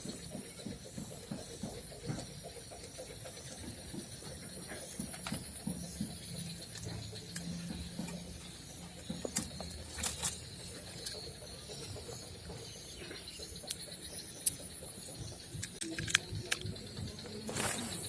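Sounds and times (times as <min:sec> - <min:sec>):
sharp clicks and ticks: 0:00.0 - 0:18.0.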